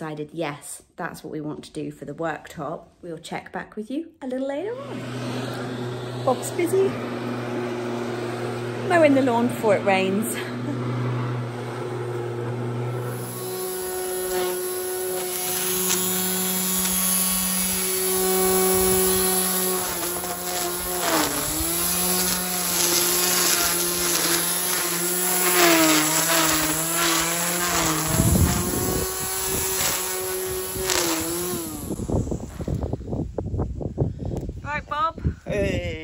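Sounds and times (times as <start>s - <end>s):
electric string trimmer whining: 4.7s - 33.5s.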